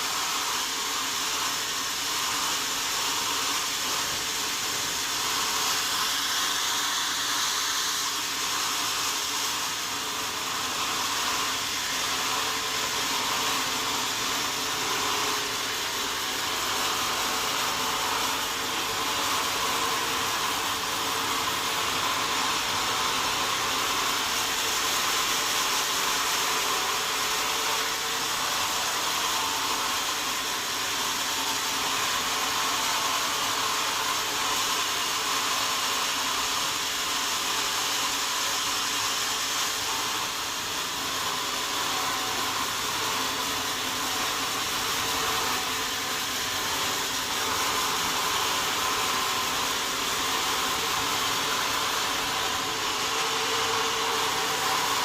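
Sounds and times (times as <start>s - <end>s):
saw cutting wood: 0.0s - 55.0s.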